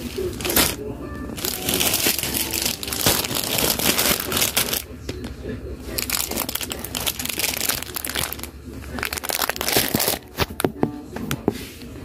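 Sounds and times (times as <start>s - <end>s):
crinkling and rustling: 0.0s - 11.7s.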